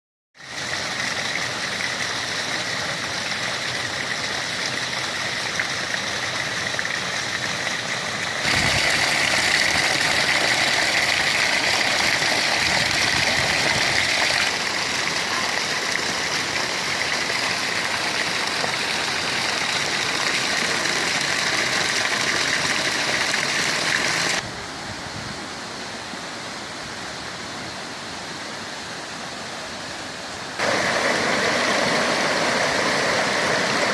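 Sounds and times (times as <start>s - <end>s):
water rushing and splashing: 0.4s - 33.9s.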